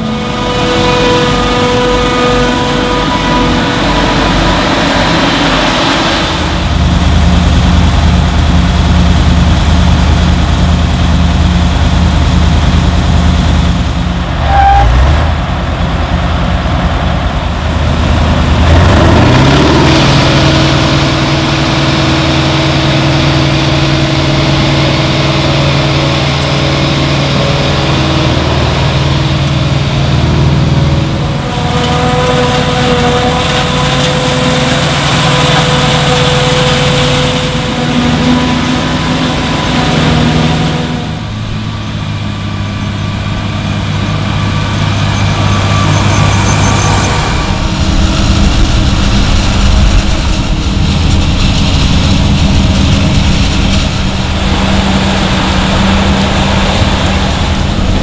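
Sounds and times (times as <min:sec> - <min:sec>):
harvester engines running: 0:00.0 - 0:58.0.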